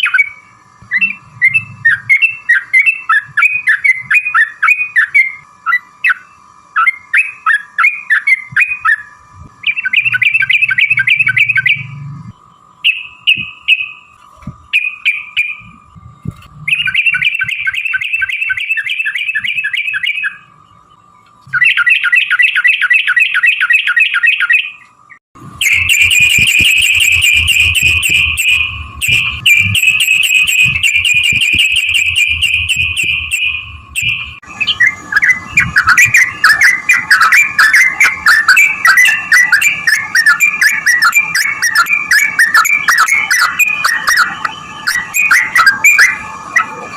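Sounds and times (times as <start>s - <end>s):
bird singing chattering rolls: 0.0s - 46.9s.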